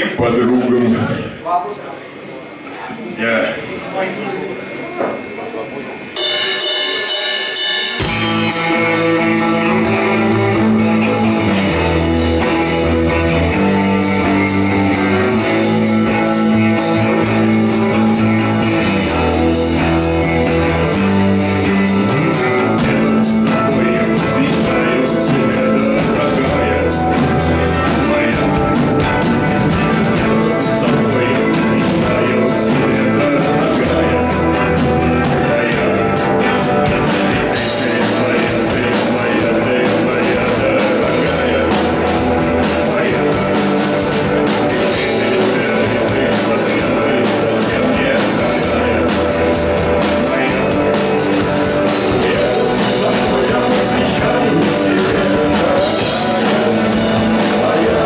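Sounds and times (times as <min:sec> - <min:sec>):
rock band playing: 0:06.0 - 0:58.0.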